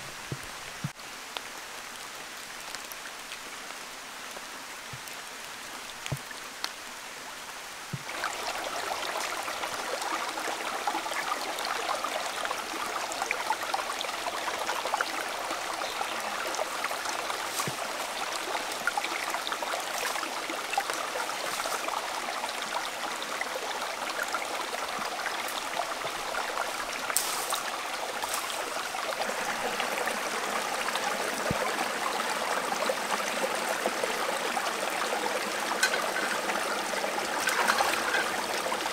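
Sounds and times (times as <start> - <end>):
faint water patter: 0.0 - 38.9
stream water flowing: 0.0 - 38.9.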